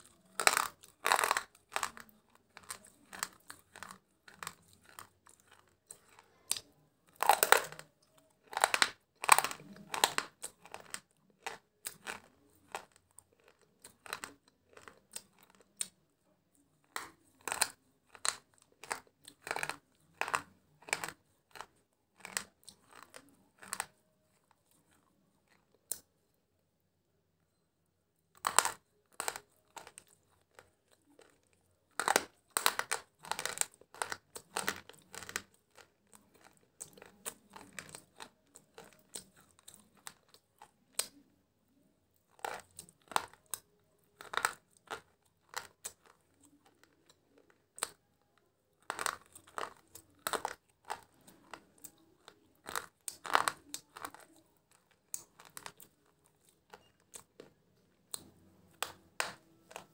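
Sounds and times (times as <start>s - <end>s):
crunchy sticks bitten and chewed: 0.0s - 26.1s, 28.4s - 59.9s.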